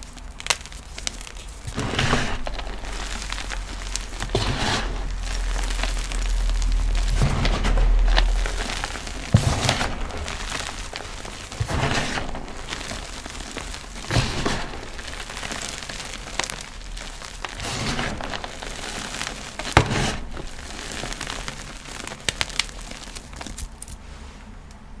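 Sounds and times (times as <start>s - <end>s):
chalk crunching: 0.0s - 24.5s
chalk crumbling rustle: 0.0s - 24.6s.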